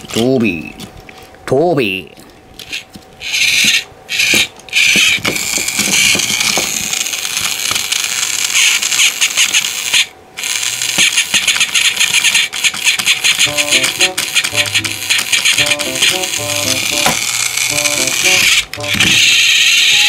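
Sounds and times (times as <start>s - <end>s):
toy train gearbox whirring: 2.6s - 20.0s.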